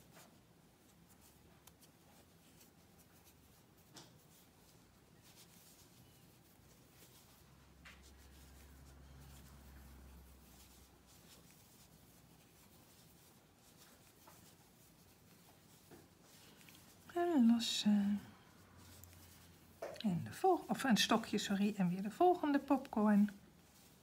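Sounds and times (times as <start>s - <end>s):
yarn rustling with crochet hook: 0.0s - 24.0s.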